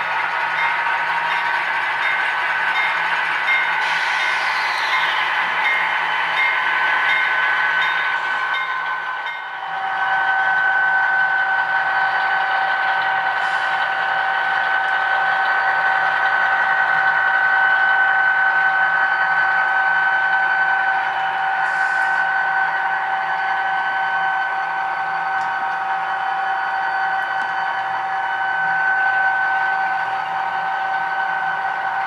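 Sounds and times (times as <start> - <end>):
model train diesel engine sound: 0.0 - 32.0.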